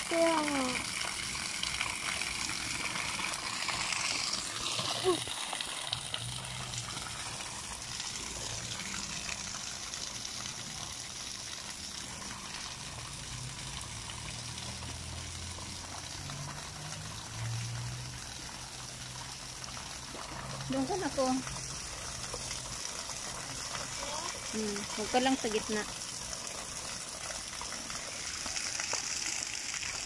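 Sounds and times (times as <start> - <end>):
water running and splashing: 0.0 - 30.0.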